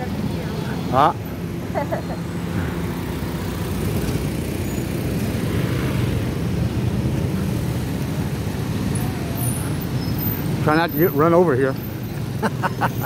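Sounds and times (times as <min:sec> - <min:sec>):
motorbike and car engines: 0:00.0 - 0:13.0.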